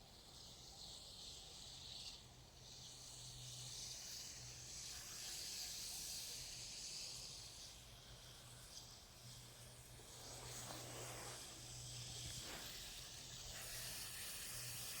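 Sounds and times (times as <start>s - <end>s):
high continuous hiss of flowing snow: 0.0s - 15.0s.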